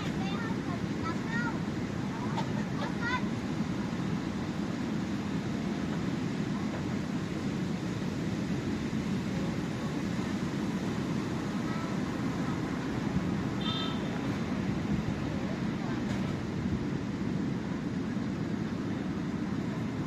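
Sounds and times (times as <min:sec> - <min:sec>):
sea surf rushing: 0:00.0 - 0:20.0.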